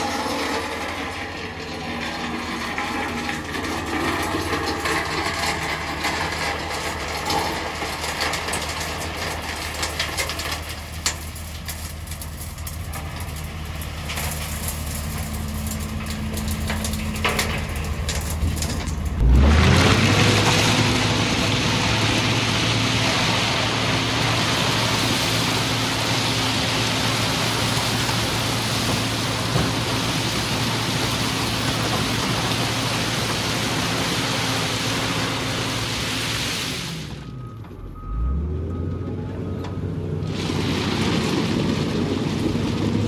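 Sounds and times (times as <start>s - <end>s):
diesel engine running under load: 0.0s - 43.0s.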